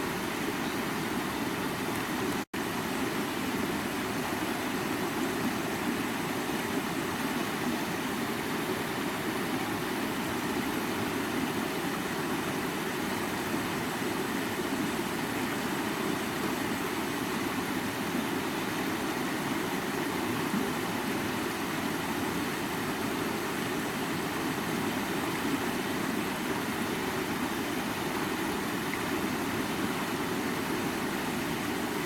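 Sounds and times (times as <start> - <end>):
stream running over rocks: 0.0 - 32.0.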